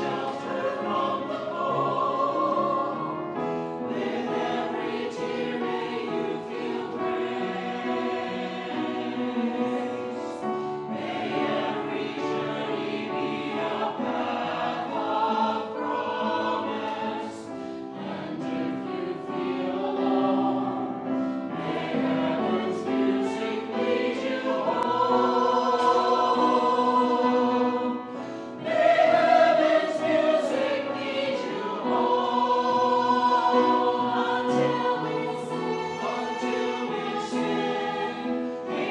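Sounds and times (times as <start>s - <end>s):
choir singing in parts: 0.0s - 38.9s.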